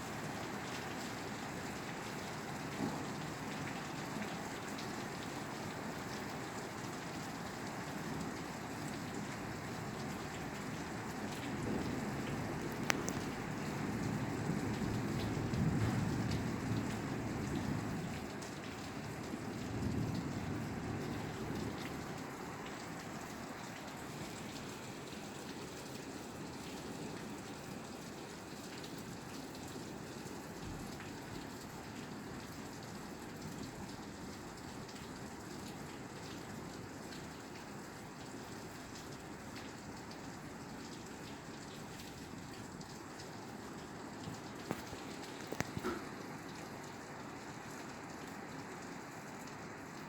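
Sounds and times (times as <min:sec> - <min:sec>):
rain on a roof: 0:00.0 - 0:50.0.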